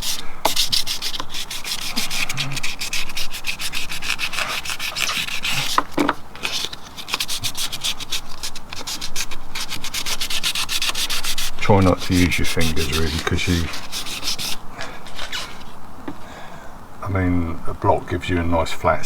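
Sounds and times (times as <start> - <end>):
sandpaper rubbing on filler: 0.0 - 15.8.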